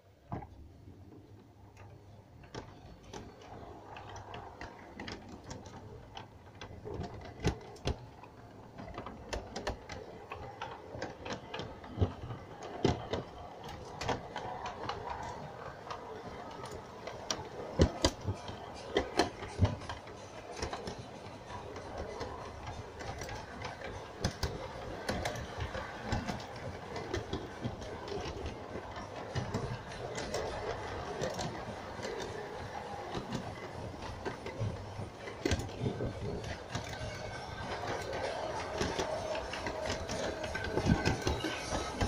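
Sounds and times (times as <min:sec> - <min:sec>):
wheels clicking over track: 0:00.0 - 0:42.0
model train running: 0:01.2 - 0:42.0.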